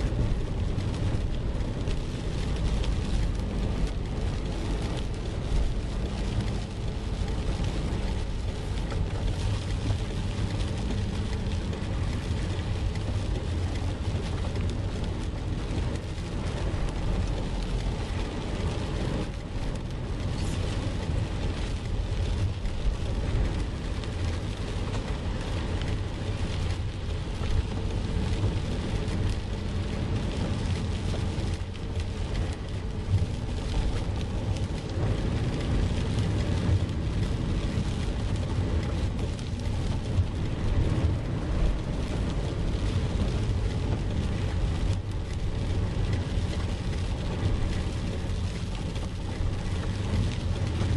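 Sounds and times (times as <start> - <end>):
car engine and tyres rumbling: 0.0 - 50.9
water and rain hissing: 0.0 - 50.9.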